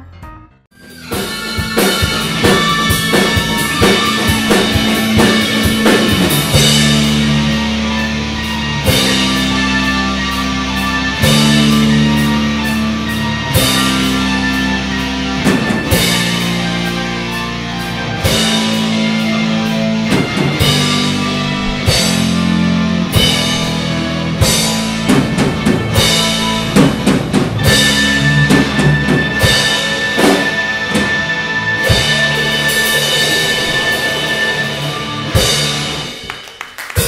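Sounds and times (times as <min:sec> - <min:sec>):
keyboard: 0:00.0 - 0:36.3
drum kit: 0:00.0 - 0:37.0
electric guitars: 0:00.0 - 0:37.0.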